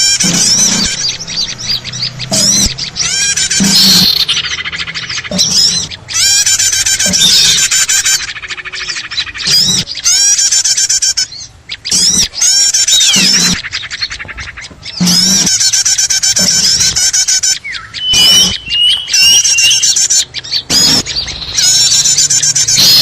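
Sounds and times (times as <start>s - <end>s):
small birds chattering and trilling: 0.0s - 23.0s.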